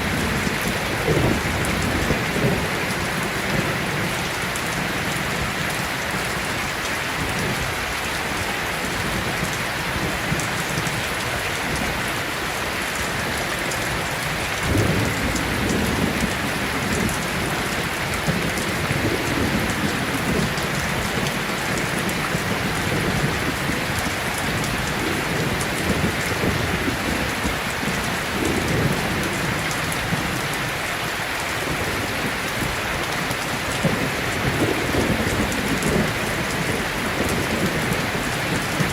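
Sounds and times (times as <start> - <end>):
thunder rumbling: 0.0 - 6.5, 12.9 - 30.6, 31.6 - 38.9
heavy rain falling: 0.0 - 38.9.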